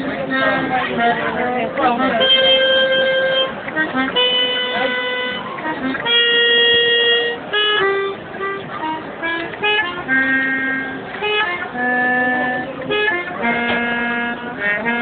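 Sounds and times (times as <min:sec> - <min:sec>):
free-reed instrument melody: 0:00.0 - 0:15.0.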